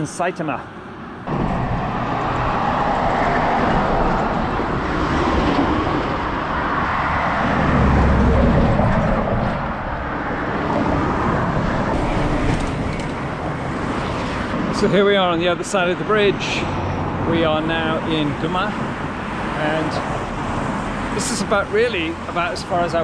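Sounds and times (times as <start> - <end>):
road traffic passing: 0.0 - 23.0
vehicle rumbling past: 1.2 - 23.0.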